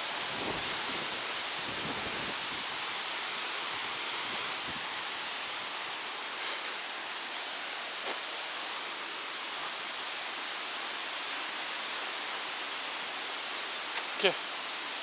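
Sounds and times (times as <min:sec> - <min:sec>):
wind rustling tree leaves: 0:00.0 - 0:15.0.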